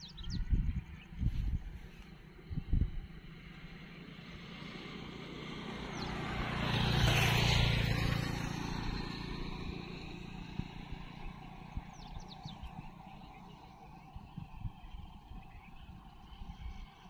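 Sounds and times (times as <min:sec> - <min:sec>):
vehicle passing on road: 0:01.2 - 0:17.0.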